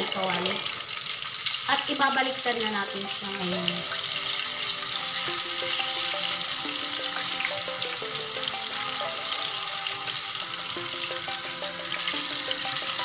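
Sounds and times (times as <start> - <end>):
chicken sizzling in hot oil: 0.0 - 13.0
background music: 1.7 - 13.0.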